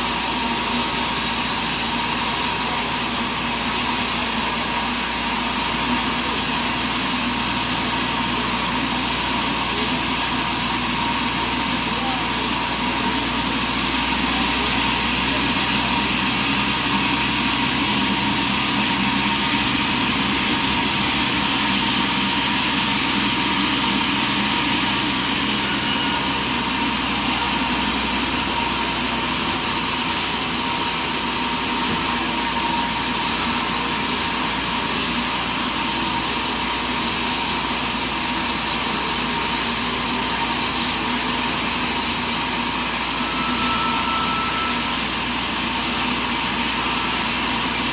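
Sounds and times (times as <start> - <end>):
sawmill engine and saw running: 0.0 - 47.9
thin steady whine: 0.0 - 47.9.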